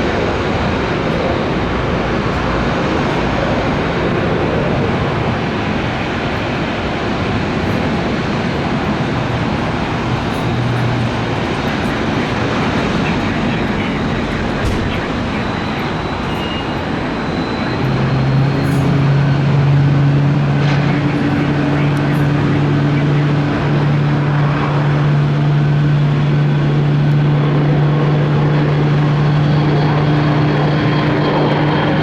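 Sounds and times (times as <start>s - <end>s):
jet engines running at low power: 0.0s - 32.0s.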